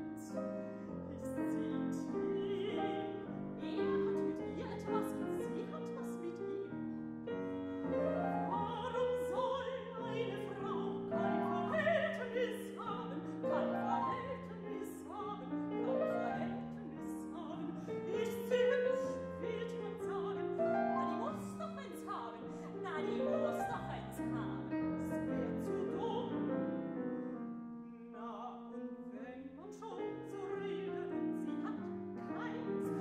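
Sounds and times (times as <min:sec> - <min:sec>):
woman singing with vibrato: 0:00.0 - 0:26.5, 0:28.1 - 0:33.0
grand piano accompaniment: 0:00.0 - 0:33.0.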